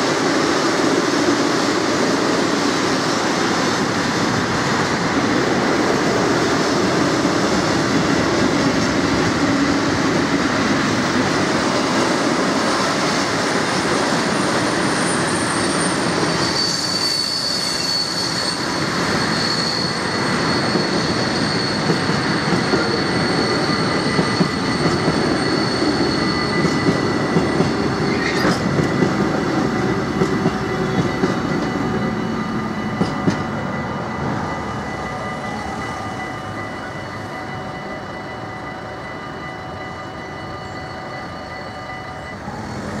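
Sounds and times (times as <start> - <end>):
high wheel squeal: 3.8 - 43.0.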